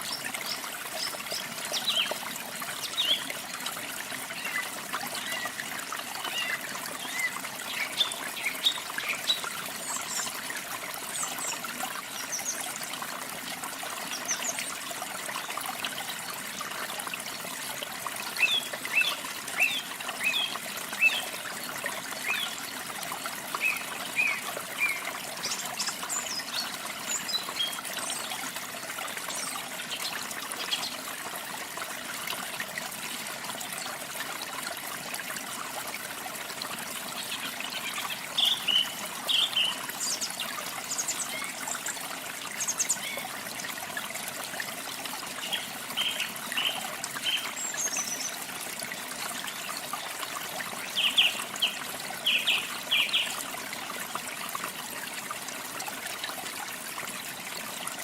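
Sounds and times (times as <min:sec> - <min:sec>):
water splashing over small waterfall: 0:00.0 - 0:58.0.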